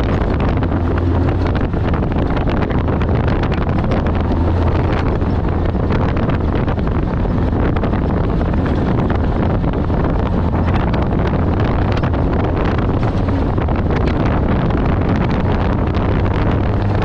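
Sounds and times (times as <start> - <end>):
knocks and rattles: 0.0 - 17.0
vehicle engine drone: 0.0 - 17.0
wind buffeting on microphone: 0.0 - 17.0.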